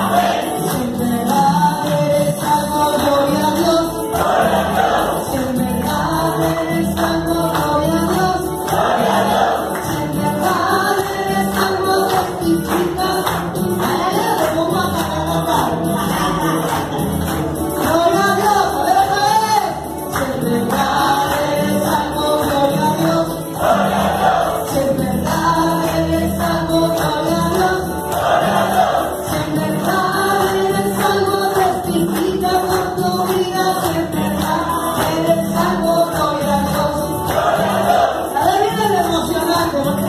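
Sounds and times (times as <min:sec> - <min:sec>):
woman singing into microphone: 0:00.0 - 0:23.6, 0:24.4 - 0:28.2, 0:29.0 - 0:40.0
amplified backing music with beat: 0:00.0 - 0:40.0
group singing along: 0:00.0 - 0:40.0.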